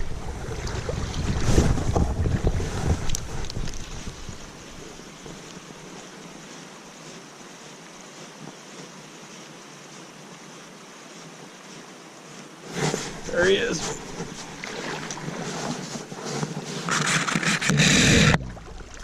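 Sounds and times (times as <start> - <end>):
creek water flowing over riffles: 0.0 - 19.0.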